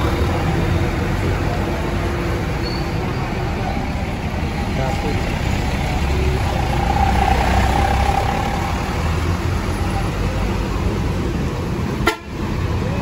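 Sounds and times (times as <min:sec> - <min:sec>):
voices: 0:00.0 - 0:11.8
diesel bus engine rumbling: 0:00.0 - 0:13.0
street noise: 0:00.0 - 0:13.0.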